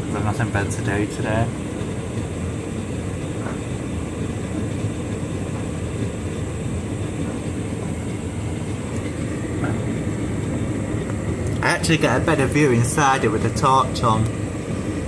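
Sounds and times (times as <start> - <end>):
faint high whine: 0.0 - 15.0
tumble dryer drum rumbling: 0.0 - 15.0.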